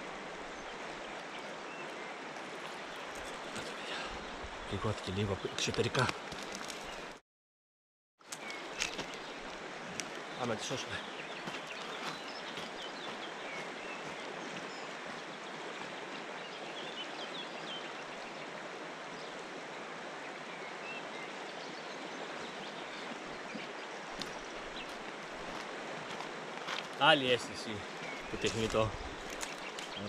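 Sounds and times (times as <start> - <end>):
river water flowing: 0.0 - 7.2, 8.2 - 30.0.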